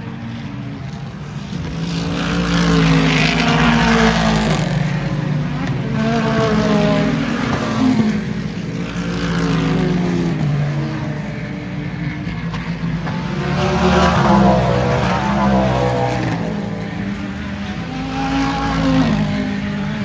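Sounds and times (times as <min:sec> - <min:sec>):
race cars passing at speed: 0:00.0 - 0:20.0.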